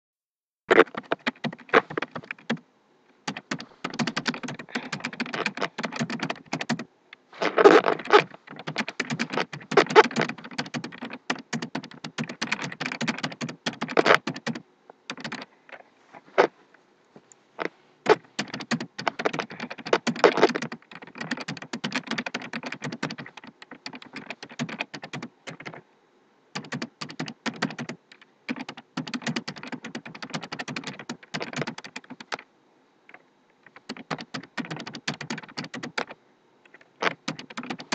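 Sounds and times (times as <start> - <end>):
typing on computer keyboard: 0.8 - 2.6, 3.3 - 6.9, 8.0 - 15.5, 18.1 - 25.8, 26.6 - 32.4, 33.6 - 37.9.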